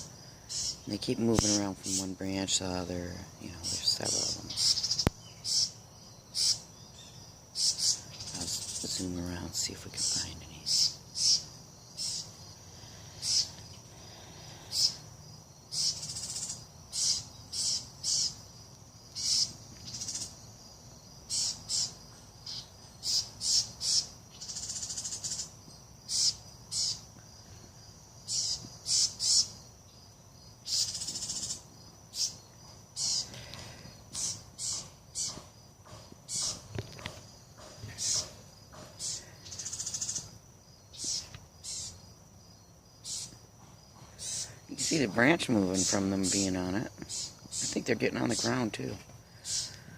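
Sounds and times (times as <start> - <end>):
harsh bird calls: 0.0 - 20.4, 21.2 - 27.6, 28.2 - 30.0, 30.6 - 42.1, 43.0 - 49.9
songbirds alarm calls: 0.0 - 49.9.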